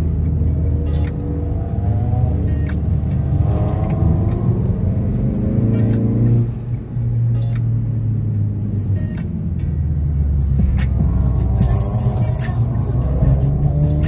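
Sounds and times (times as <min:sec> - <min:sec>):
car engine revving: 0:00.0 - 0:14.0
music playing: 0:00.0 - 0:14.0.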